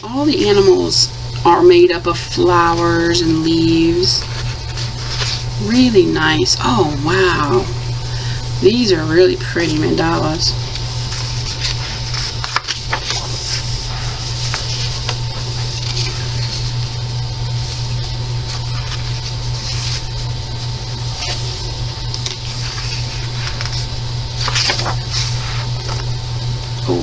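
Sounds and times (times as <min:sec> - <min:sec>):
low hum and hiss: 0:00.0 - 0:27.0
paper pages turning: 0:02.1 - 0:07.7, 0:08.8 - 0:26.2.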